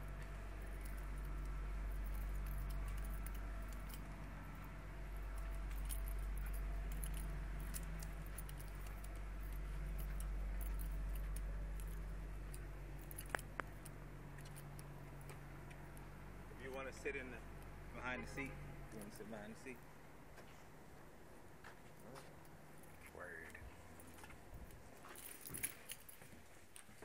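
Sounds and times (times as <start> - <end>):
light jingling clicks: 0.0 - 19.8, 21.8 - 27.0
steady low hum: 0.0 - 27.0.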